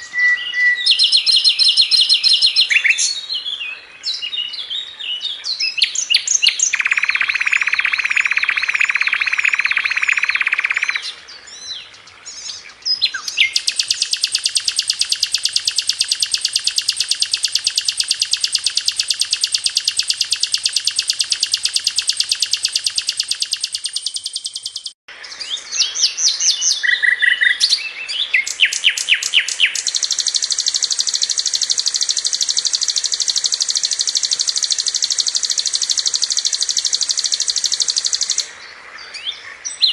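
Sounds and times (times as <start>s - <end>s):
flycatcher singing fast trills: 0.0s - 3.5s, 5.5s - 11.2s, 12.4s - 38.5s.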